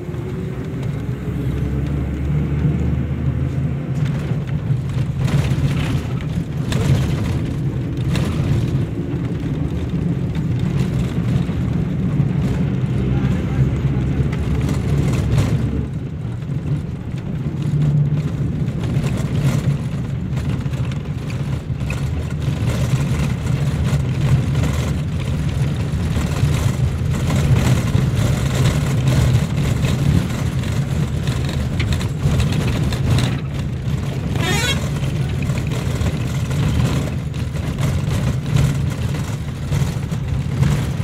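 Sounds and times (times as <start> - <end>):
vehicle engine and road drone: 0.0 - 41.0.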